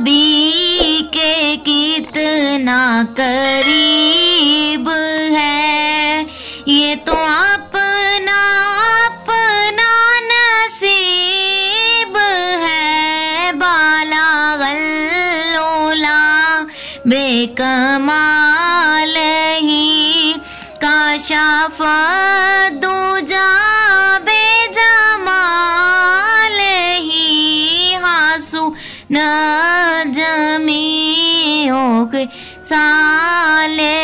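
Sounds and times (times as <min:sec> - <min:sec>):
person singing devotional song: 0:00.0 - 0:34.0.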